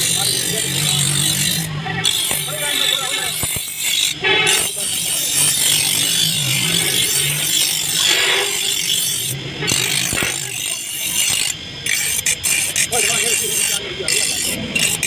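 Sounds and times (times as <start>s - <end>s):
filing strokes on metal blade: 0.0s - 15.0s.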